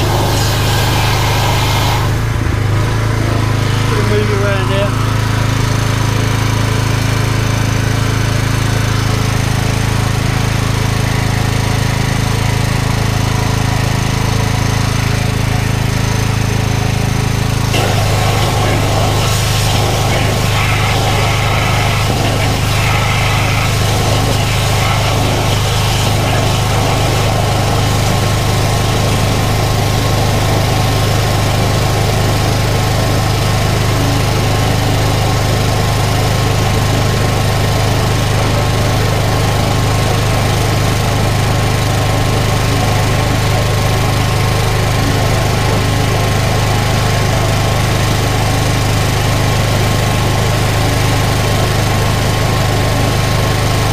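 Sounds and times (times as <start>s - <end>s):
machine engine running with low hum: 0.0s - 53.9s.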